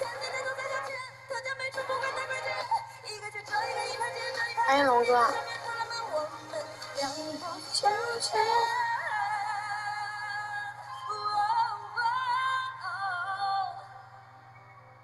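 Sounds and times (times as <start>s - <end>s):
woman singing with music: 0.0s - 15.0s.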